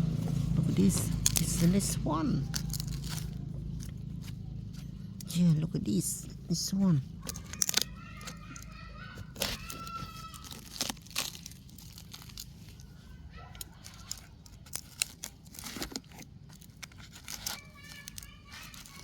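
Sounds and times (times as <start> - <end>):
rotten wood crunching and snapping: 0.0 - 19.0.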